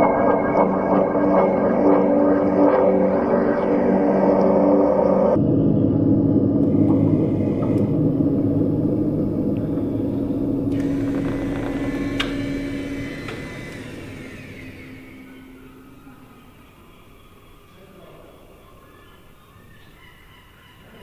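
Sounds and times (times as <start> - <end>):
low rumbling drone: 0.0 - 17.7.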